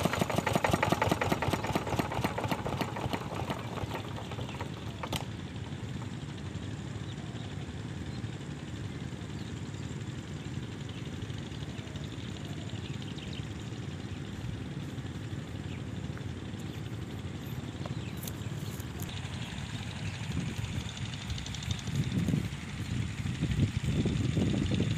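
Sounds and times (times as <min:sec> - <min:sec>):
diesel pump engine running: 0:00.0 - 0:24.9.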